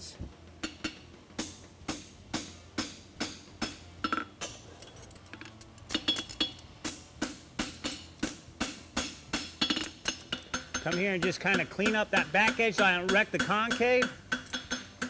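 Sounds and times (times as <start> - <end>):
hammer striking horseshoe on anvil: 0.6 - 15.0.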